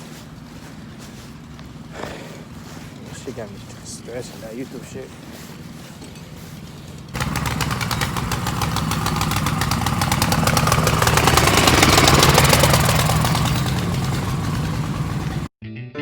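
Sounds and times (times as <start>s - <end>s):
engine running: 0.0s - 15.5s.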